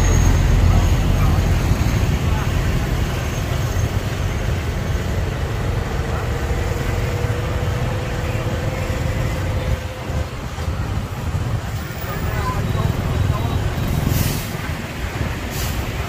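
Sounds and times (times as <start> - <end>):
motorbike engines rumbling: 0.0 - 16.0.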